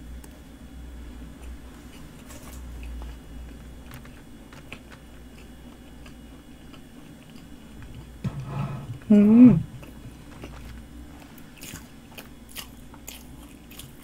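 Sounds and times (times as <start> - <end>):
low steady hum: 0.0 - 14.0
close chewing of pastry: 1.3 - 8.2, 9.7 - 14.0.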